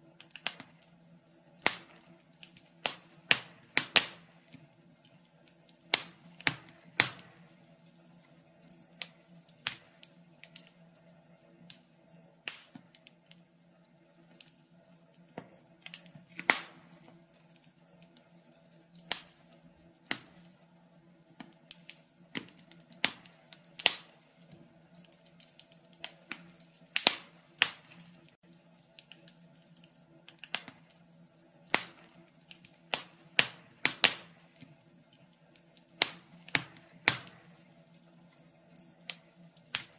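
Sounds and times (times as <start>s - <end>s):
burning logs crackling and popping: 0.0s - 39.9s
faint steady hum: 0.0s - 39.9s.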